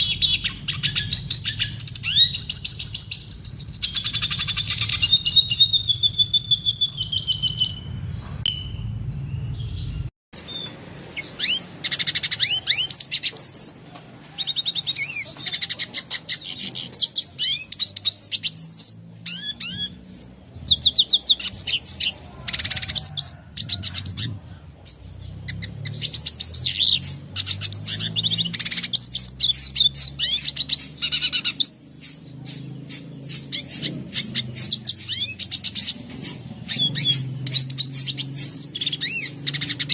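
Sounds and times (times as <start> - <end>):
bird singing twittering phrases: 0.0 - 13.8, 14.4 - 39.9.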